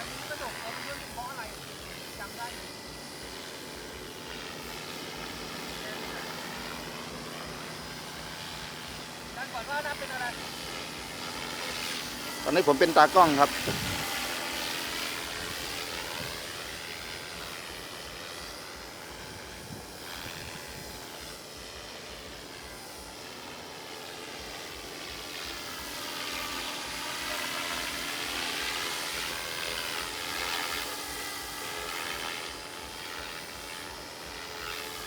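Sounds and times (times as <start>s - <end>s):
model airplane motor whine: 0.0s - 35.0s.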